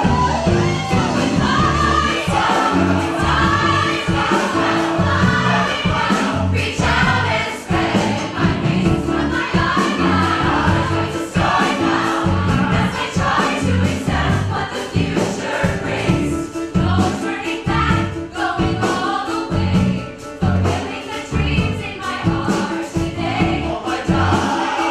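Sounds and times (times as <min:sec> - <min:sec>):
live band of piano bass and drums: 0:00.0 - 0:24.9
mixed choir singing in harmony: 0:00.0 - 0:24.9.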